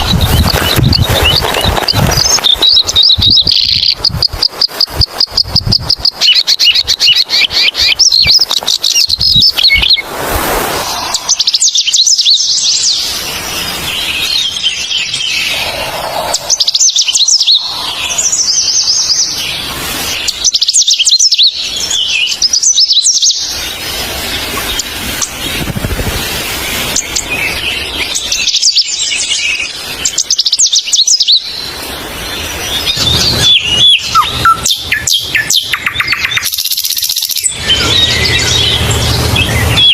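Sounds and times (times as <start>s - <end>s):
songbirds singing: 0.0s - 10.1s, 10.8s - 39.9s.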